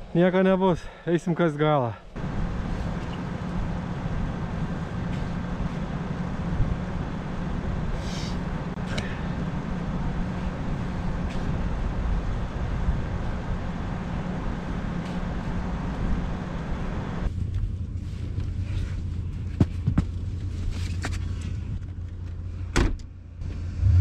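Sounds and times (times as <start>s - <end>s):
car engine idling: 2.2s - 22.6s.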